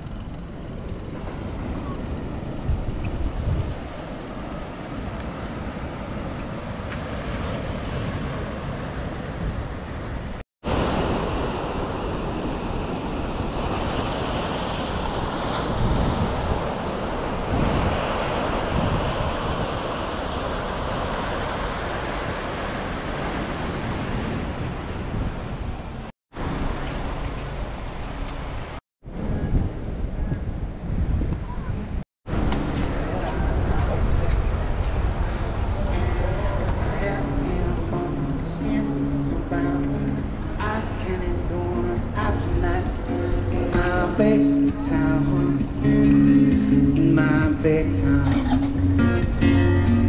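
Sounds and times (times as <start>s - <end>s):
wind rushing over microphone: 0.0s - 27.3s, 28.1s - 50.0s.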